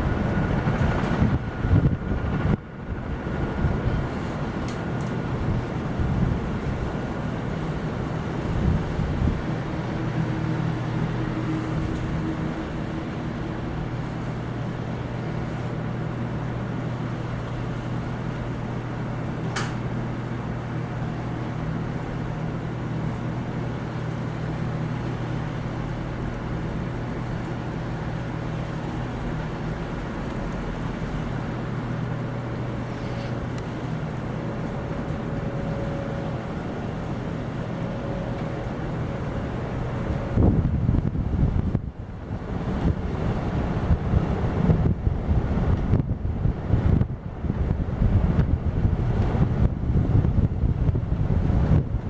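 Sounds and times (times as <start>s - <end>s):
low motor hum: 0.0s - 52.0s.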